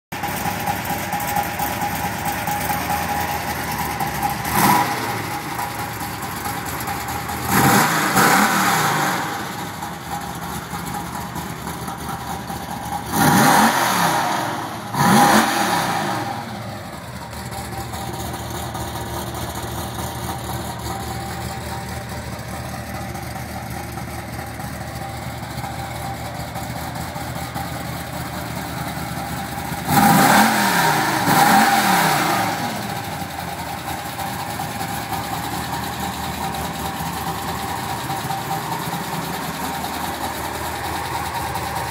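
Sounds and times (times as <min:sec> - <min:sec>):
car engine idling and revving: 0:00.1 - 0:41.9.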